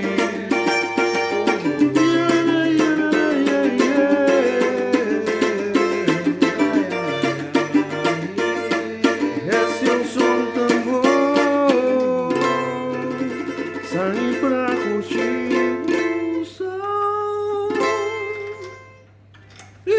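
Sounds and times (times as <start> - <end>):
plucked string instrument melody: 0.0 - 19.8.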